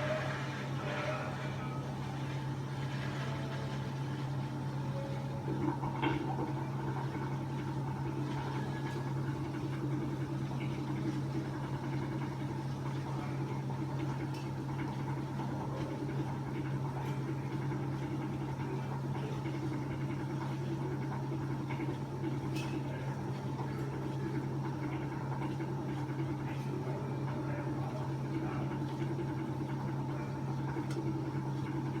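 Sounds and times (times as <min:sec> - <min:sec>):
washing machine motor hum: 0:00.0 - 0:32.0.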